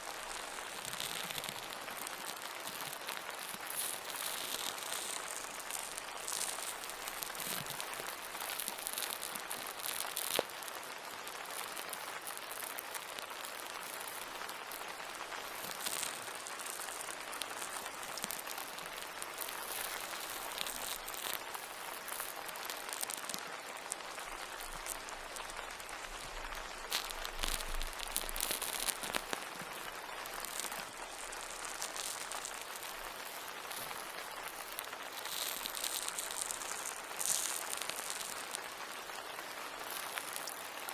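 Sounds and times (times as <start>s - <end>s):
hiss with small crackles: 0.0s - 40.9s.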